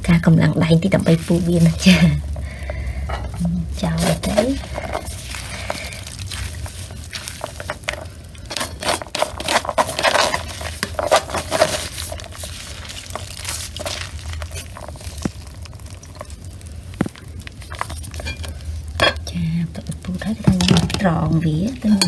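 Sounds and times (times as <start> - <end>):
plastic glove crinkling: 0.0 - 22.0
wet seeds being crushed: 0.0 - 22.0.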